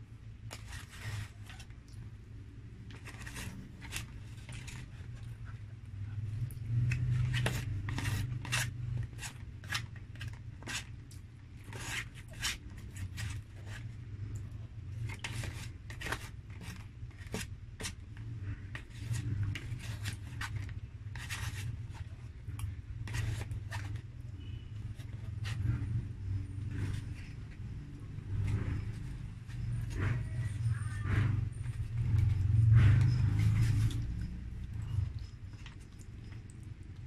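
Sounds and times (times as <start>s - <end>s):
metal spoon scraping cardboard box: 0.5s - 1.7s, 2.8s - 5.3s, 6.7s - 11.0s, 11.6s - 14.0s, 15.0s - 22.3s, 23.0s - 36.5s.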